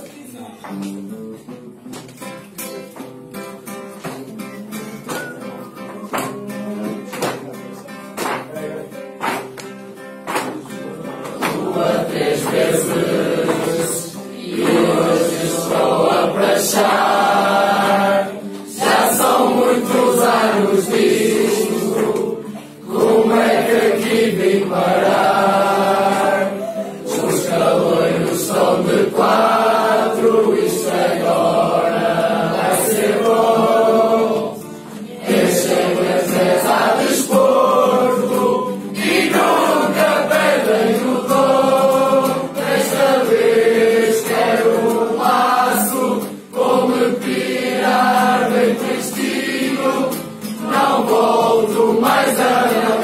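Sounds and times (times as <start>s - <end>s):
acoustic guitar: 0.0s - 53.0s
group singing together: 4.0s - 53.0s.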